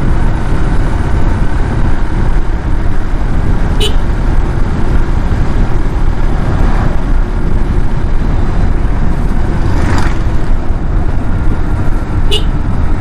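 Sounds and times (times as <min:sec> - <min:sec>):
wind and road rumble: 0:00.0 - 0:13.0.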